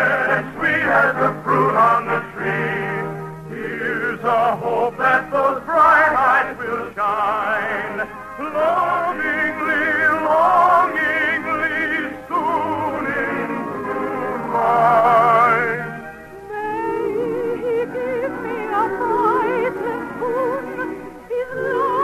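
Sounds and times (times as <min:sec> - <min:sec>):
orchestra playing: 0:00.0 - 0:06.5, 0:07.3 - 0:22.0
operetta singing with vibrato: 0:00.0 - 0:22.0.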